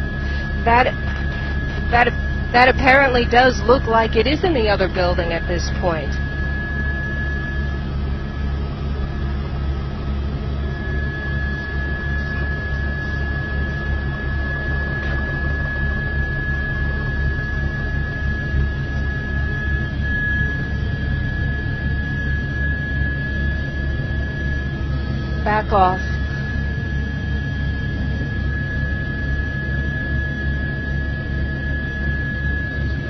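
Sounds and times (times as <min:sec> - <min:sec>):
constant high-pitched tone: 0:00.0 - 0:33.0
helicopter engine and rotor drone: 0:00.0 - 0:33.0.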